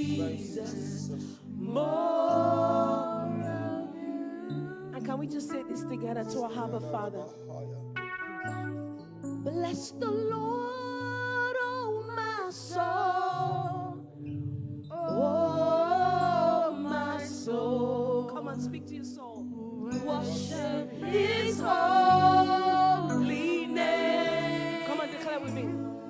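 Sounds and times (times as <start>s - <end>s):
person singing worship song: 0.0s - 5.6s, 9.5s - 14.3s, 14.9s - 26.0s.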